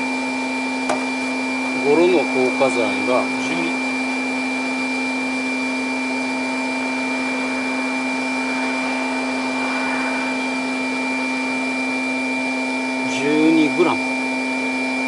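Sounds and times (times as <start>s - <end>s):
motor humming: 0.9s - 13.0s.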